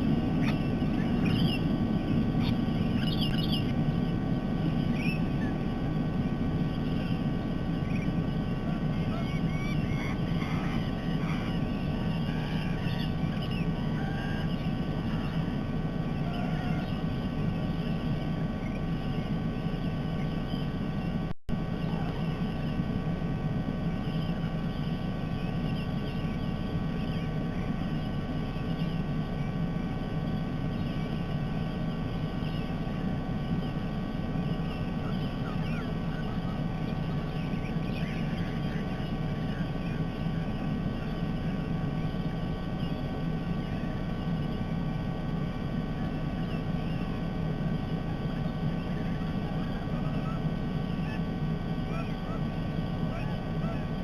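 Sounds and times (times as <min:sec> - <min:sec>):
faint bird chirps: 0:00.0 - 0:54.0
low background rumble: 0:00.0 - 0:54.0.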